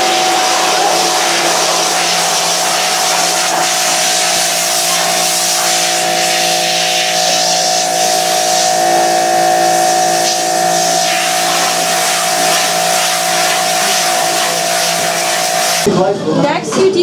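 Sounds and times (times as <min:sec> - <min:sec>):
pressure washer motor hum: 0:00.0 - 0:15.9
water jet hissing: 0:00.0 - 0:15.9.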